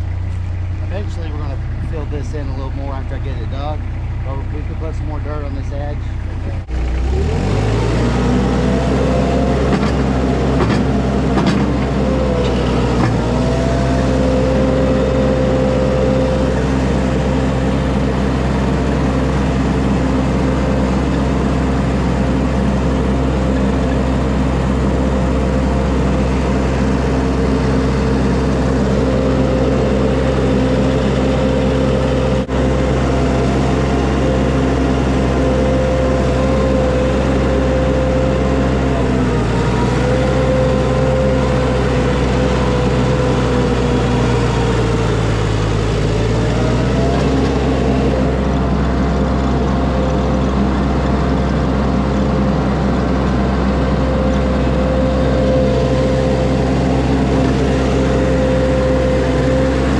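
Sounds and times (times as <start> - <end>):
skid steer engine revving: 0.0 - 59.9.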